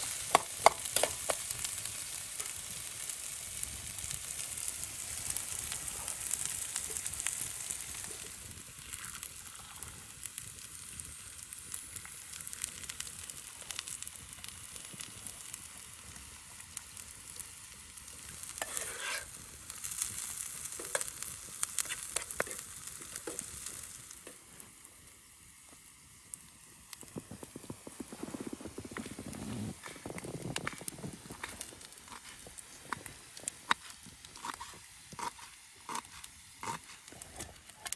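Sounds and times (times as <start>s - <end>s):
onions sizzling in a pan: 0.0s - 37.9s
small pops and crackles: 0.0s - 37.9s.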